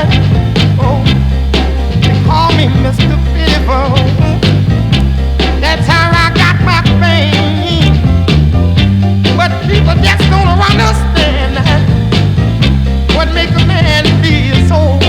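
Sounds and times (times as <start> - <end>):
rhythm and blues record playing: 0.0 - 15.0.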